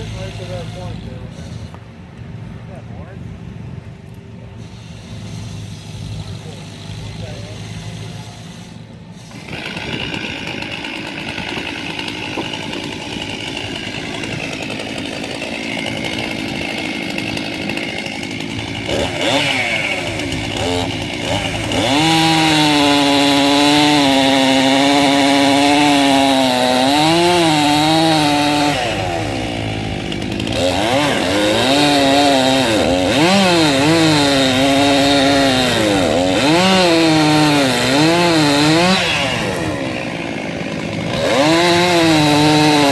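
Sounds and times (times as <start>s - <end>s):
circular saw blade cutting log: 0.0s - 1.8s, 4.6s - 42.9s.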